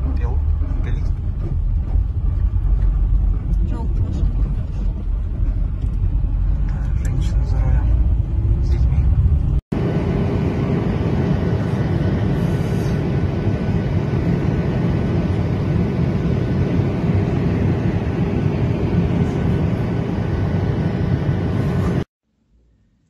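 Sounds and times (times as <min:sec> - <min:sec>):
jet cabin engine and airflow rush: 0:00.0 - 0:22.1.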